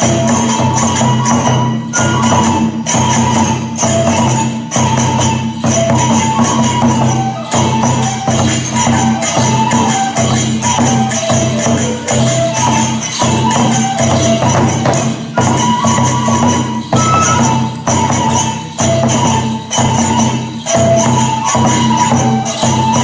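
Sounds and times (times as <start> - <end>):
bamboo flute melody: 0.0 - 23.0
hand cymbal clashes: 0.0 - 23.0
taiko drum beats: 0.0 - 23.0.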